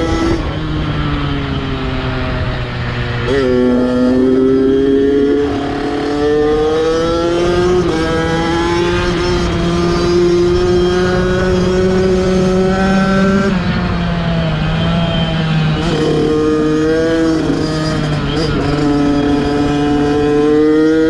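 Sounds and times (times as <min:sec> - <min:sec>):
dirt bike engine accelerating: 0:01.4 - 0:21.0.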